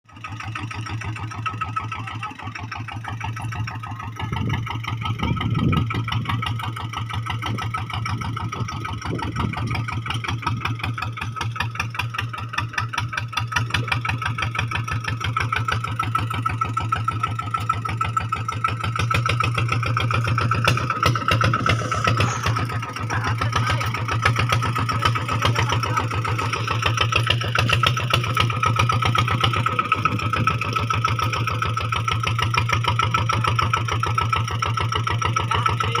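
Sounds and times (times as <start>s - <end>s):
engine running with pulsing beat: 0.1s - 36.0s.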